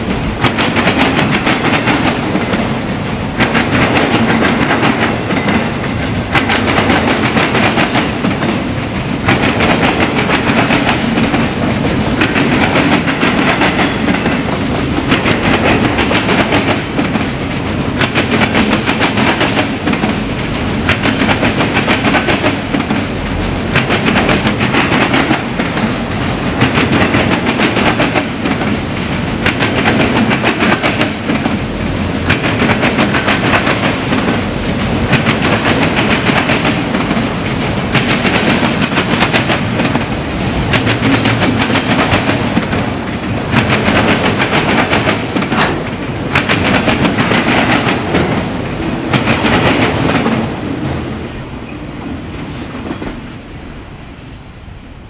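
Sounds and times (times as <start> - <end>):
train wheels clattering over rail joints: 0.0 - 53.4.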